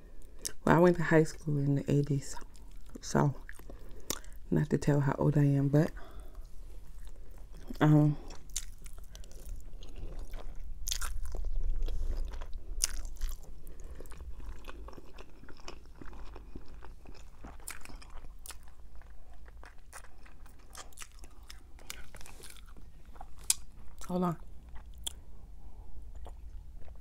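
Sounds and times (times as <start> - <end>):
chewing noodles: 2.4 - 4.4, 6.4 - 25.3, 26.1 - 27.0.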